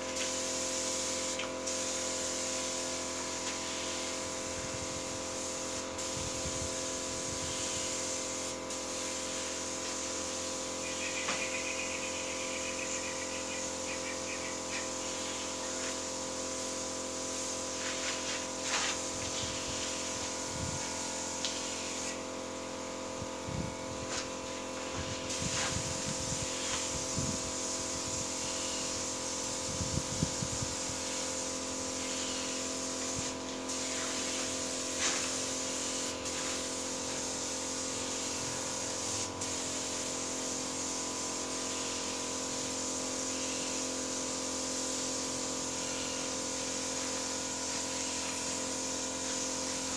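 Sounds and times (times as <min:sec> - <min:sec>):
paint spray gun hissing: 0:00.0 - 0:49.9.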